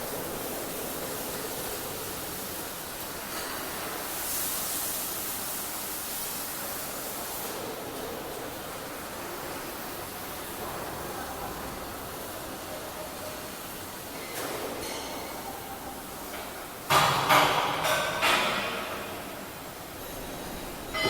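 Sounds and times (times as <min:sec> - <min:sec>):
hiss-like background noise: 0:00.0 - 0:21.0.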